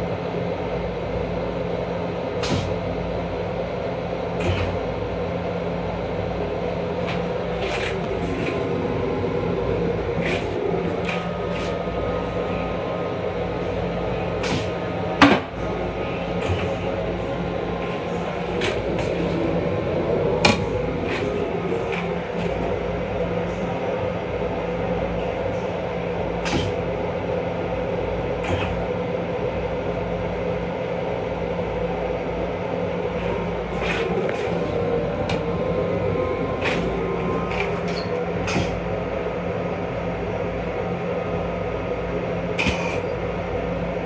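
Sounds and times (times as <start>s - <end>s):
railcar hum and rumble: 0.0s - 44.0s.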